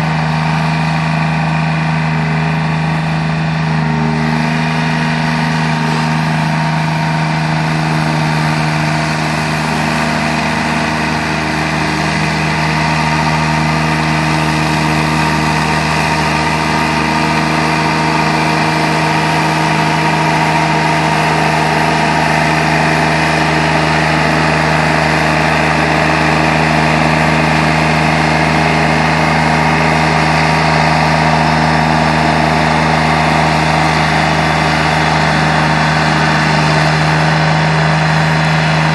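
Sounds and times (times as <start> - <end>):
mower cutting tall grass: 0.0 - 38.9
mower engine running: 0.0 - 38.9.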